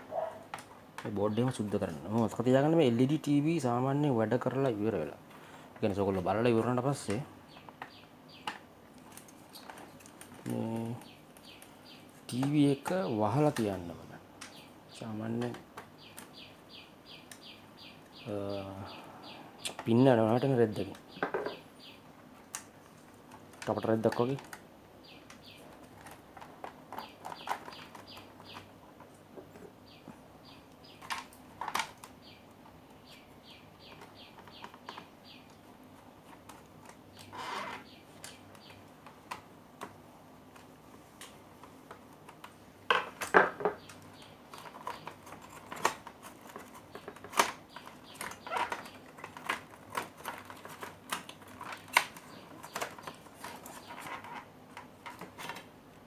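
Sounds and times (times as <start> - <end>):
bird chirping: 0.0 - 8.6, 9.2 - 22.4, 23.6 - 36.5, 37.1 - 39.2, 43.0 - 55.6.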